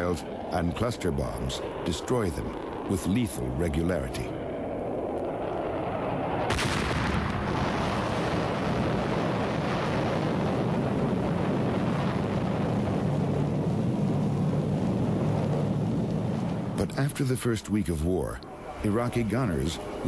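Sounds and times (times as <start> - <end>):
jet engine roaring: 0.0 - 20.0.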